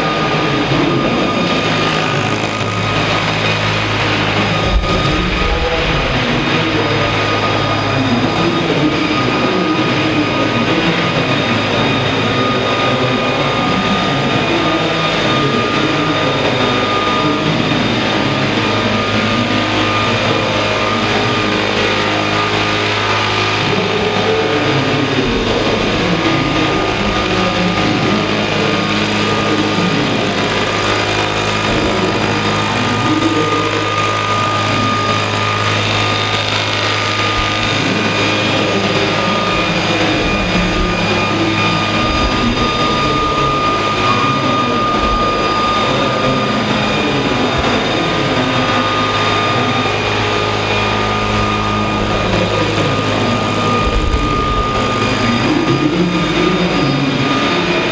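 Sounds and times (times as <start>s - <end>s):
high-pitched whine: 0.0s - 57.9s
model helicopter rotor hum: 0.0s - 57.9s.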